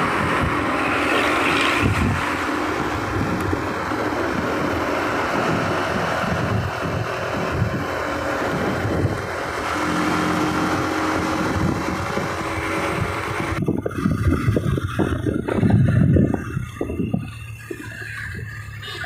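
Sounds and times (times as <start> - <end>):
wind buffeting microphone: 0.0 - 18.8
vehicle road noise: 0.0 - 19.0.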